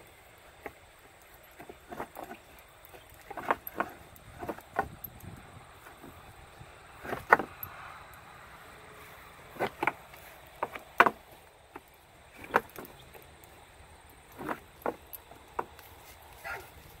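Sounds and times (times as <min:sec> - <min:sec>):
horns scraping against branch: 0:00.0 - 0:17.0.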